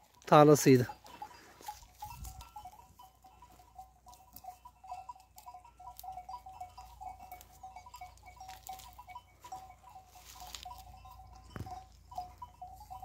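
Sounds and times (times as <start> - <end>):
sheep bells clinking: 0.0 - 13.0.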